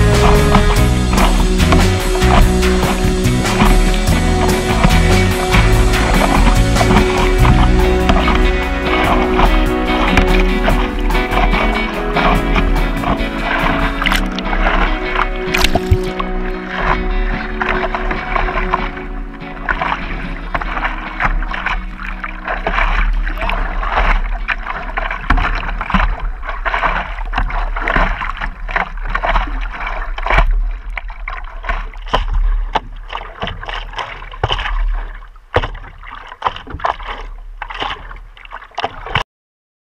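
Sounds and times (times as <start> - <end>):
water splashing against paddleboard: 0.0 - 39.2.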